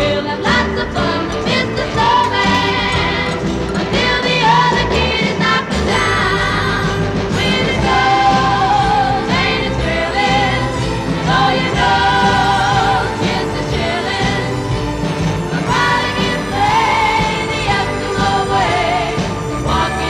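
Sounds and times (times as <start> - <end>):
choir singing: 0.0 - 20.0
instrumental backing music: 0.0 - 20.0.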